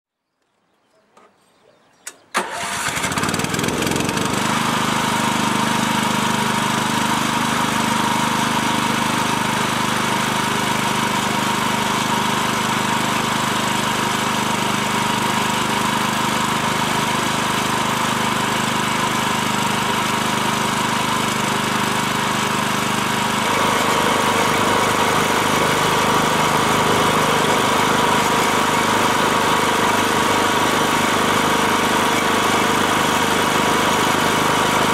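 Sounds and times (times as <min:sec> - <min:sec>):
small engine starting and idling: 0:02.1 - 0:34.9.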